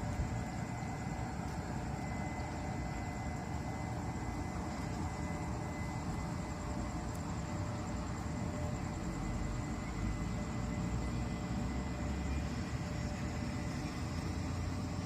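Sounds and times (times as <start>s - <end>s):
thin steady whine: 0.0s - 15.0s
train rumbling and humming: 0.0s - 15.0s.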